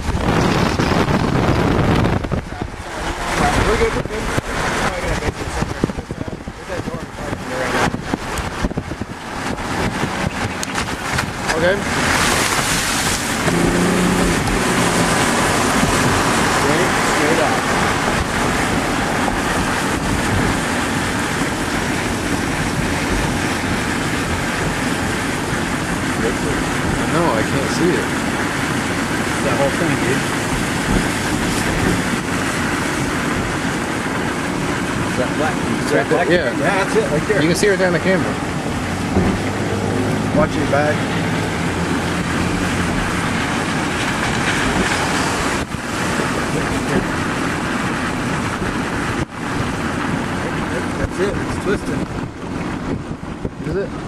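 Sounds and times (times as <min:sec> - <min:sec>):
strong wind rushing: 0:00.0 - 0:54.0
wind buffeting microphone: 0:00.0 - 0:54.0.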